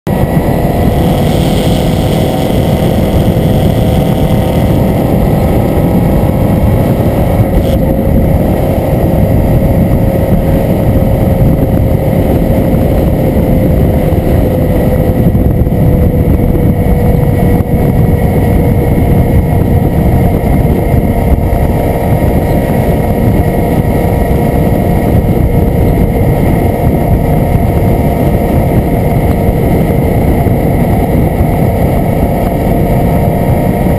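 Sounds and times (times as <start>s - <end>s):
motorcycle engine cruising: 0.1s - 33.9s
wind noise on microphone: 0.1s - 33.9s.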